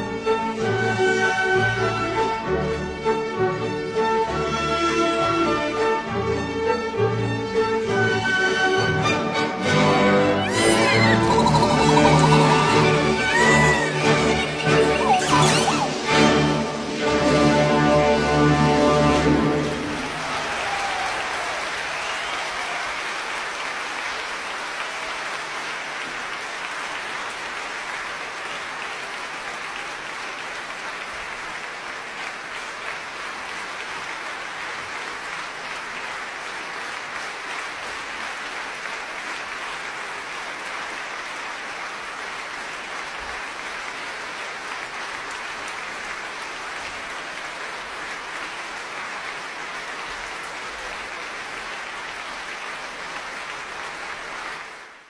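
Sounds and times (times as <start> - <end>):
audience applause: 8.0 - 18.0, 19.0 - 55.0.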